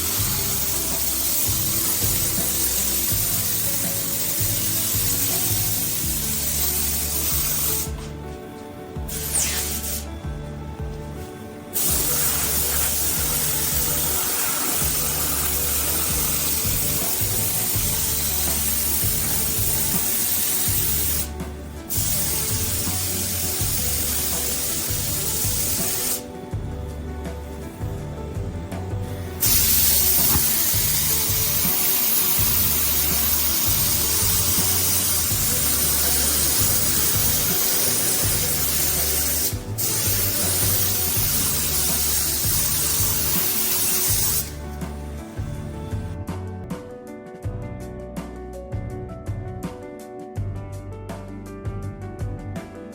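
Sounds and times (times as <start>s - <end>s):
spraying hiss: 0.0s - 10.2s, 11.2s - 45.7s
background music with bass line: 0.0s - 52.9s.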